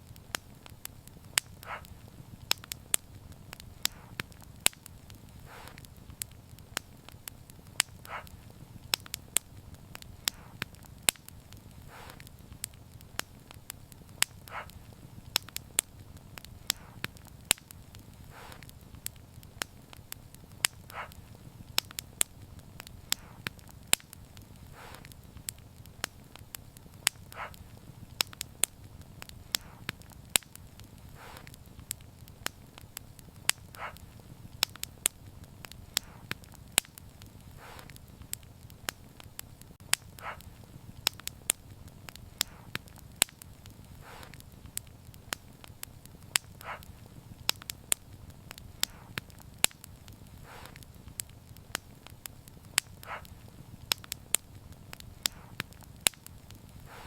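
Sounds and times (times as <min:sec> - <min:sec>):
soft puffs of fire: 0:00.0 - 0:57.0
wood fire crackling: 0:00.0 - 0:57.0.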